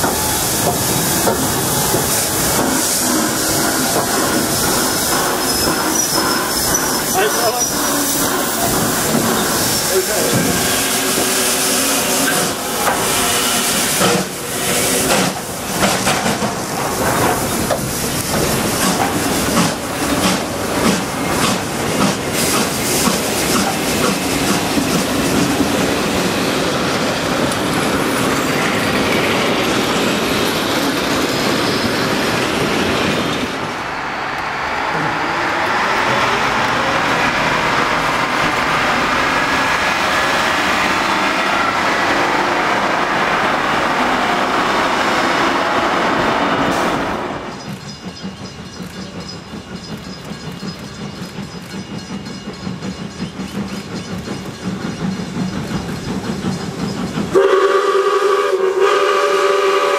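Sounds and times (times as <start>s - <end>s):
diesel railcar rumbling: 0.0s - 59.9s.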